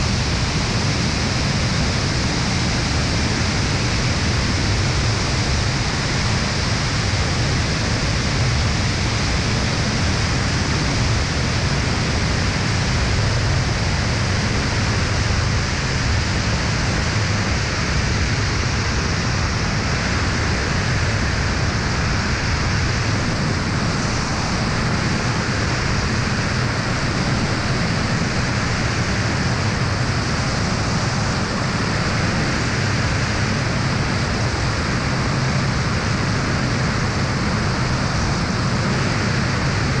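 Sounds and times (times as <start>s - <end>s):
aircraft engine and propeller drone: 0.0s - 40.0s
wind rushing over camera: 0.0s - 40.0s.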